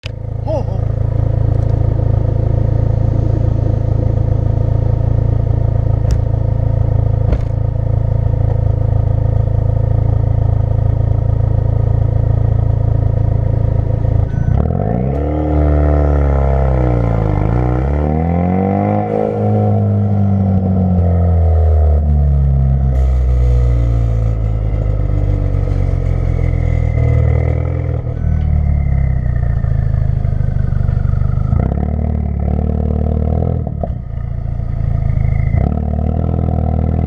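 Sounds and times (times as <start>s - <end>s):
car engine droning: 0.0s - 37.0s.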